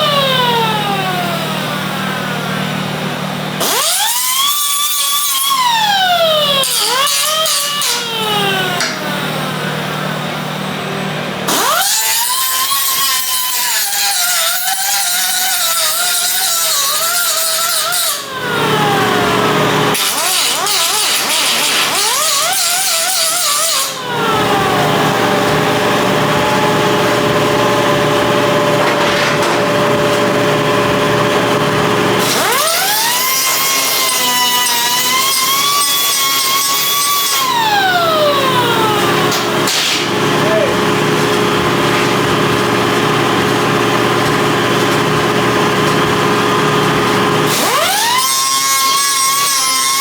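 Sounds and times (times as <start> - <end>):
electric grinder whining on metal: 0.0 - 41.2, 45.4 - 50.0.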